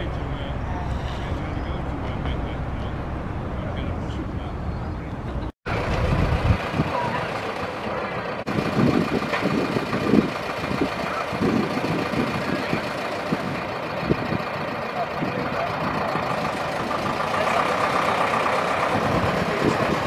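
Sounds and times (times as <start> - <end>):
diesel engine running slowly: 0.0 - 20.0.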